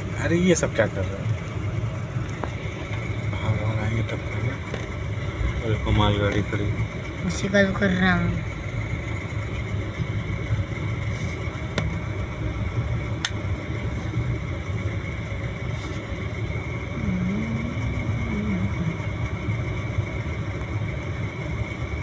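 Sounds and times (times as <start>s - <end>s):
train rumble and hiss on board: 0.0s - 22.0s.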